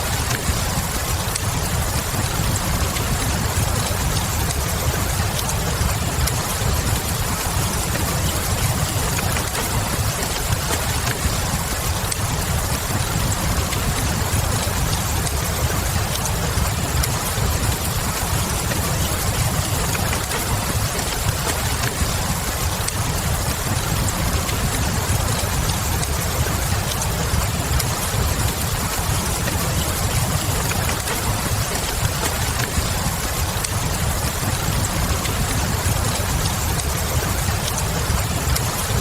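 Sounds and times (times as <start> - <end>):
rain hiss: 0.0 - 39.0
wood fire crackles: 0.0 - 39.0.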